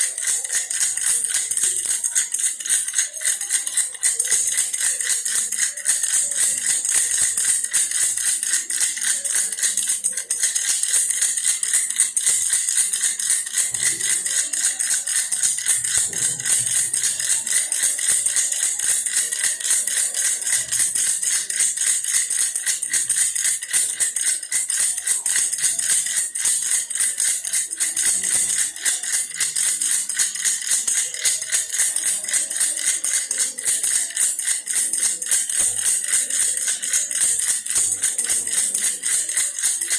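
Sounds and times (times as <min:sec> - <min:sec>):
toy rattle shaken rapidly: 0:00.0 - 0:39.9.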